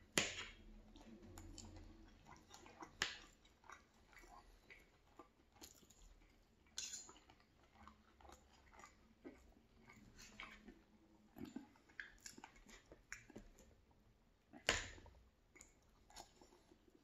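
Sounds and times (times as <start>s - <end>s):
person chewing: 0.2s - 13.7s, 15.5s - 17.0s.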